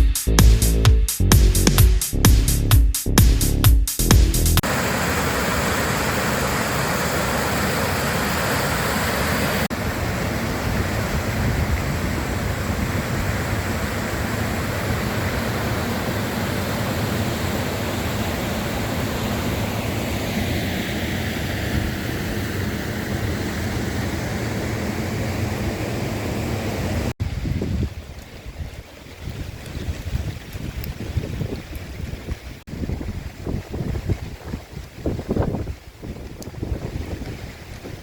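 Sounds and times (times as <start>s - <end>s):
floodwater rushing: 4.6s - 38.0s.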